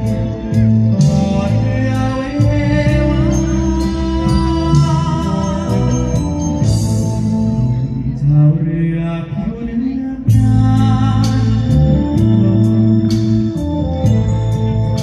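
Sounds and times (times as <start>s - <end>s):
person singing: 0.0s - 7.2s, 7.8s - 15.0s
live band music: 0.0s - 15.0s.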